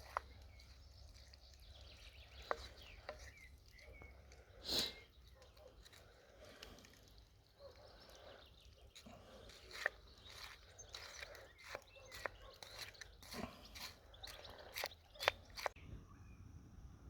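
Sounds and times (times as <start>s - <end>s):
crunching and chewing food: 0.0s - 15.8s.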